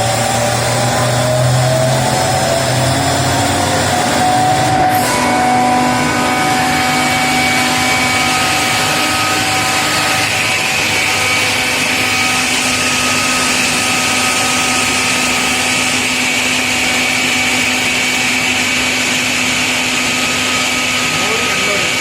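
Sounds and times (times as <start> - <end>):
air compressor drone with whine: 0.0 - 22.0
low hum: 0.0 - 22.0.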